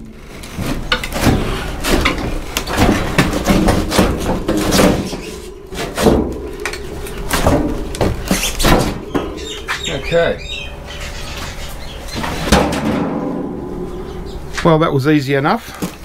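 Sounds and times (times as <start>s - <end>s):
metal knocks and scraping: 0.0s - 15.0s.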